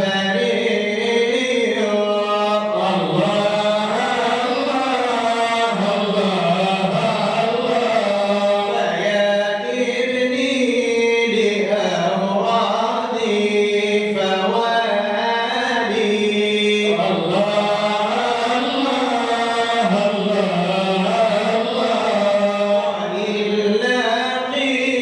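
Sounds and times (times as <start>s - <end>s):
devotional chanting: 0.0s - 25.0s.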